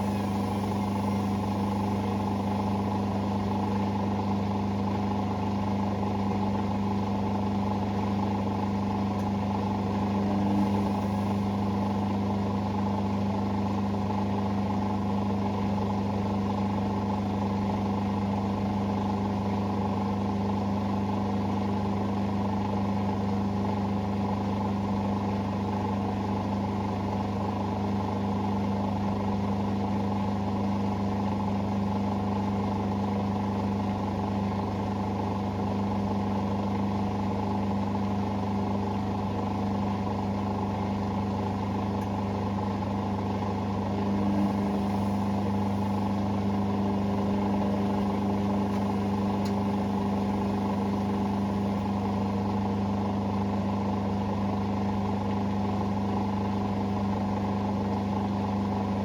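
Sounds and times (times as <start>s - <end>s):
washing machine motor hum: 0.0s - 23.2s, 24.7s - 59.0s.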